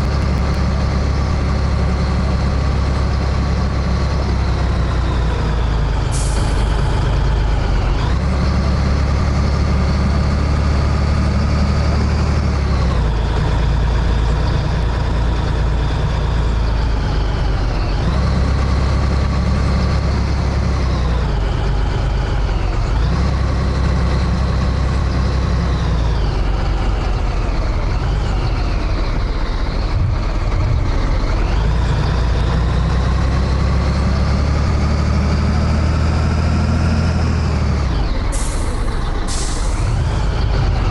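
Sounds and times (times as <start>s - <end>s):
diesel truck engine shifting gears: 0.0s - 40.9s.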